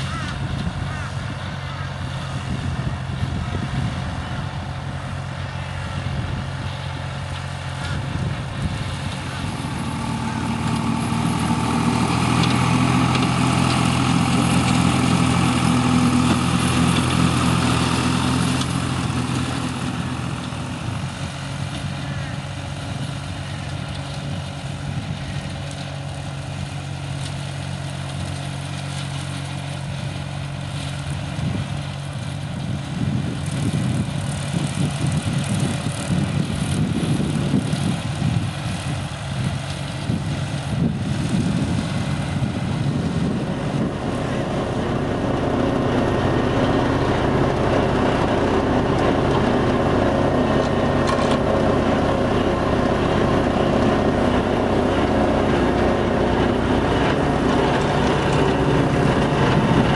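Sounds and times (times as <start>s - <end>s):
mower cutting grass: 0.0s - 59.9s
tractor engine running: 0.0s - 59.9s.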